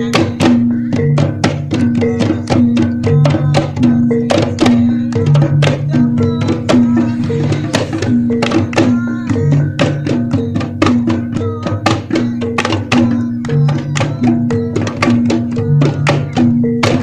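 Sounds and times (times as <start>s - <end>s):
hand drums beaten quickly: 0.0s - 17.0s.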